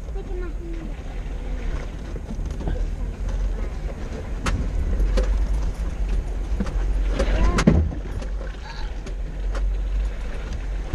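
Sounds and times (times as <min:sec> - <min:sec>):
off-road vehicle rumble: 0:00.0 - 0:10.9.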